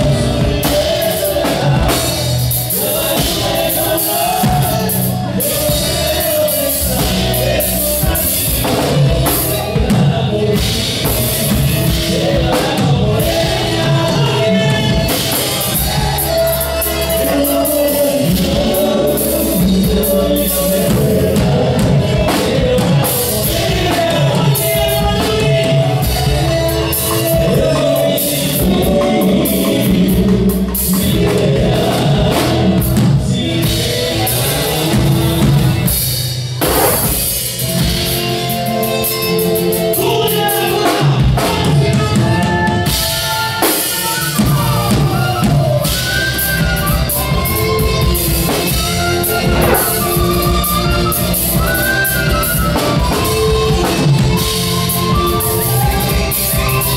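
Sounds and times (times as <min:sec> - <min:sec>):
men singing together: 0:00.0 - 0:38.6, 0:39.4 - 0:56.9
acoustic guitars and charango: 0:00.0 - 0:56.9
drum kit beat: 0:00.0 - 0:56.9.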